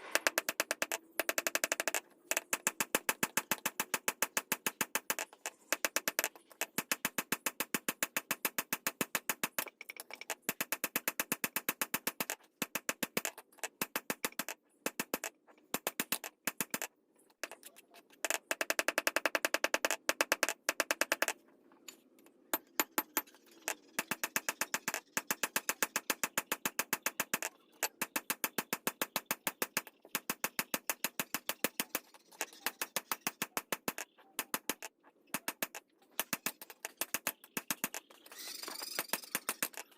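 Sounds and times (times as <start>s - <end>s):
rapid sharp taps: 0.0s - 21.4s, 22.5s - 39.9s.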